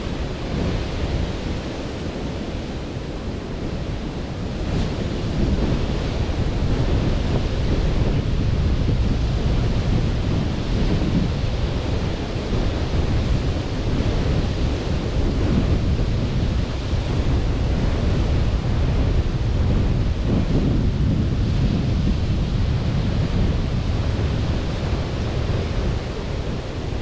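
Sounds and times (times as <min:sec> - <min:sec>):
sea surf washing onto beach: 0:00.0 - 0:27.0
wind rumbling on microphone: 0:00.0 - 0:27.0.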